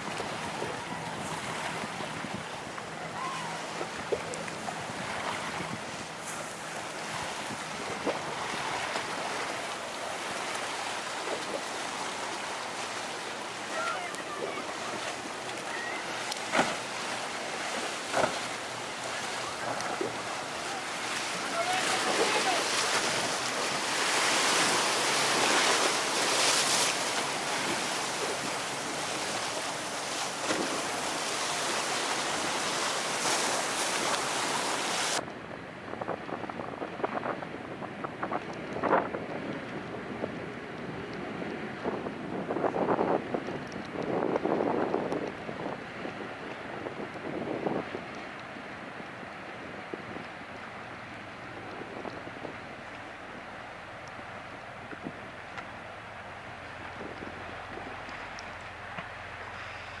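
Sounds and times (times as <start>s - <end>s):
waves breaking: 0.0s - 60.0s
wind buffeting microphone: 0.0s - 60.0s.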